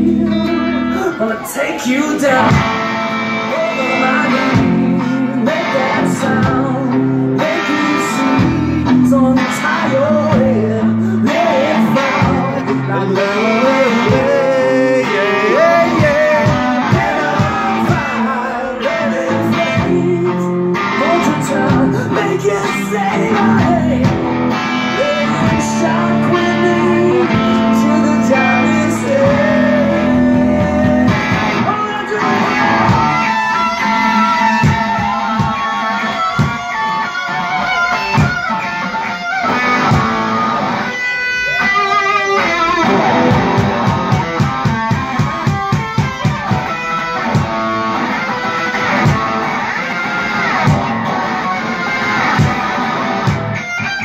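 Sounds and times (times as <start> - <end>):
electric guitar solo: 0.0 - 54.0
steady rock beat: 0.0 - 54.0.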